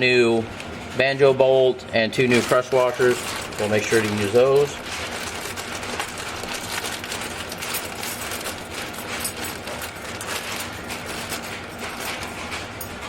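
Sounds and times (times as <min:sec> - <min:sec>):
metallic clicking and rattling: 0:02.4 - 0:13.0.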